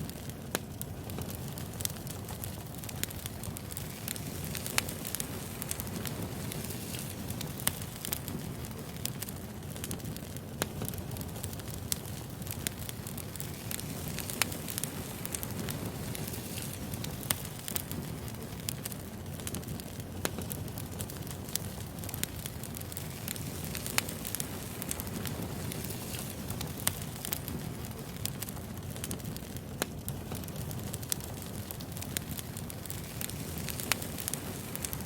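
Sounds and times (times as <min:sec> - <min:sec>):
low fire rumble: 0:00.0 - 0:35.0
wood fire crackling: 0:00.0 - 0:35.0.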